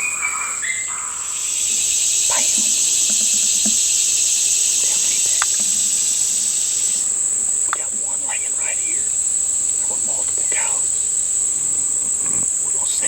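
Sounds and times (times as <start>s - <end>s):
high-pitched insect chorus: 0.0s - 13.0s
faint ticks: 1.4s - 13.0s.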